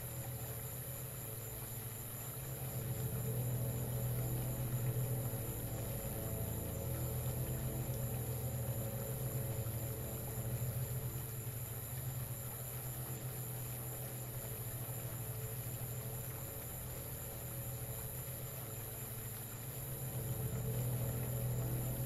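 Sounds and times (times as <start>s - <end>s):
low electronic drone: 0.0s - 22.0s.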